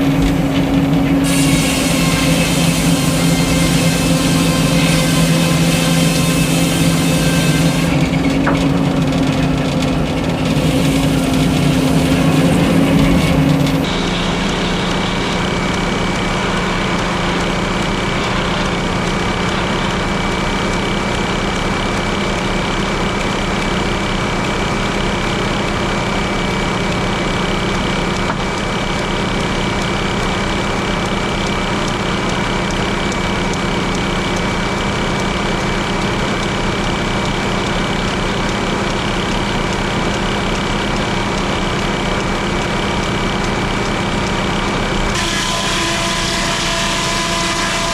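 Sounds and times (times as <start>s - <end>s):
engine droning: 0.0s - 47.9s
sawmill high whine: 0.0s - 47.9s.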